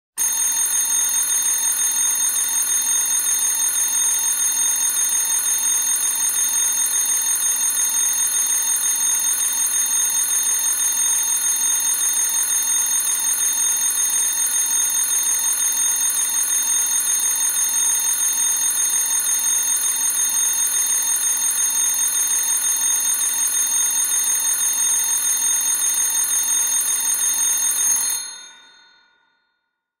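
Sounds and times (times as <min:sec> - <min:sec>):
electric alarm bell ringing: 0:00.2 - 0:29.4.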